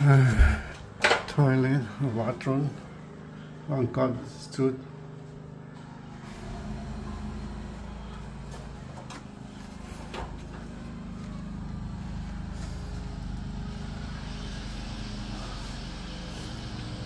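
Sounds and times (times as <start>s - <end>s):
low mechanical rumble: 0.0s - 17.0s.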